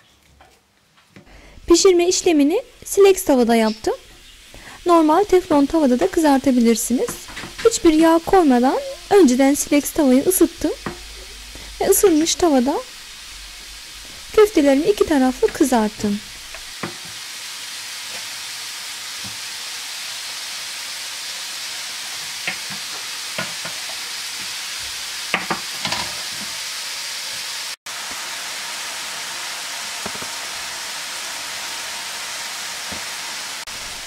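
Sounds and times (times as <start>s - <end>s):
meat patties sizzling on grill: 1.4s - 34.0s.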